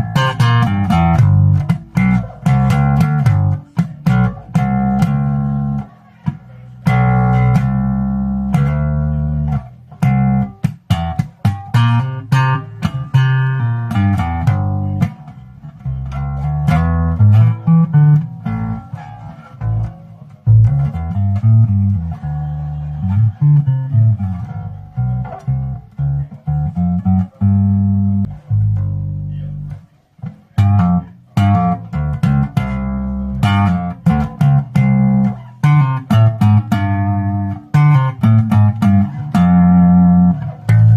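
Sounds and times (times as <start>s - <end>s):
electric bass plucked notes: 0.0s - 40.9s.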